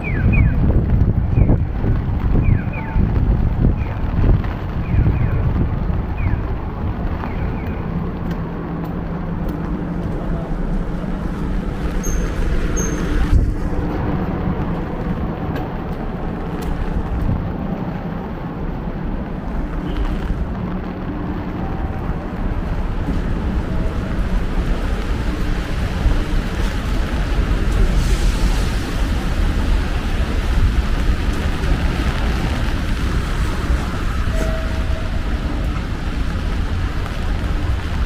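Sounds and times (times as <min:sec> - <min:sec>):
vehicle traffic: 0:00.0 - 0:38.0
wind buffeting microphone: 0:00.0 - 0:38.0.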